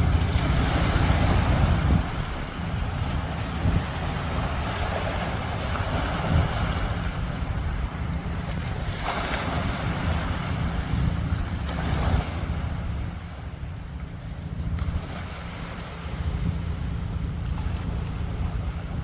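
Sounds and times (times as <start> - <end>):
sea waves washing ashore: 0.0 - 19.0
wind buffeting microphone: 0.0 - 19.0.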